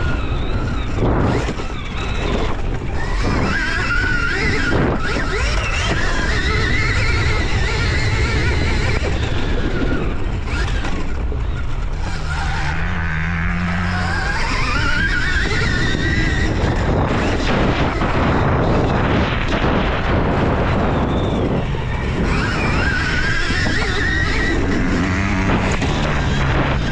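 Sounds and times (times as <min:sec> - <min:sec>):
electric dirt bike motor whining: 0:00.0 - 0:26.9
wind and track noise: 0:00.0 - 0:26.9.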